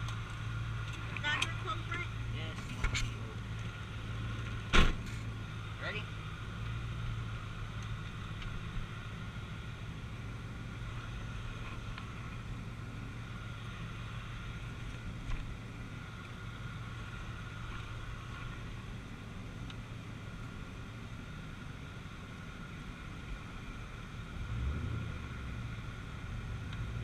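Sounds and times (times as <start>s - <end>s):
car engine drone: 0.0s - 27.0s
road noise: 0.0s - 27.0s.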